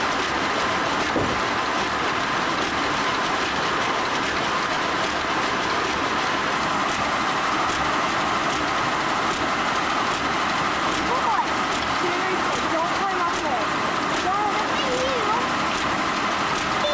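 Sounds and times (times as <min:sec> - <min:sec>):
sawmill machinery running: 0:00.0 - 0:16.9.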